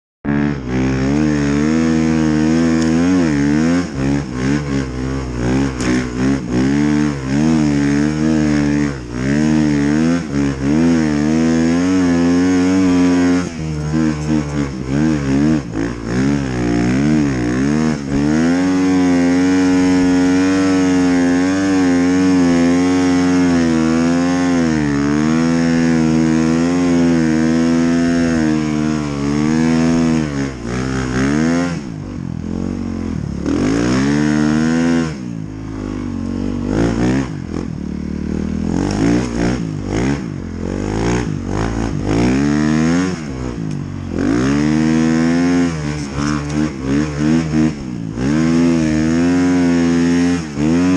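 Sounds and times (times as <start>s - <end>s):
dirt bike engine revving: 0.2s - 50.9s.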